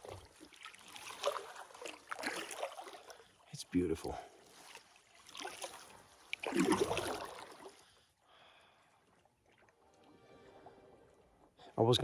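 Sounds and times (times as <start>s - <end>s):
paddle dipping into water: 0.0s - 11.7s
water splashing and trickling: 0.0s - 12.0s.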